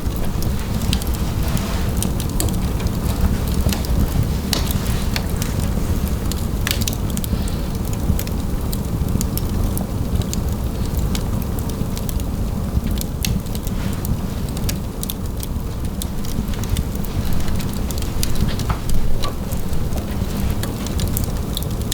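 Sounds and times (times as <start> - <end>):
log fire crackling: 0.0 - 21.9.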